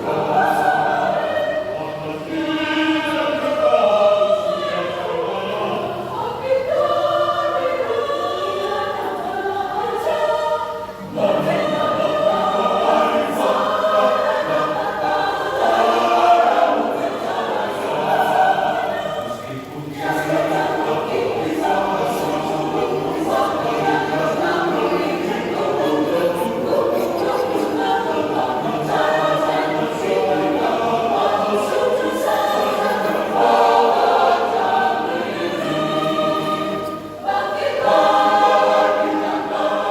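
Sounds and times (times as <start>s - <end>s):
church choir singing a hymn: 0.0s - 39.9s.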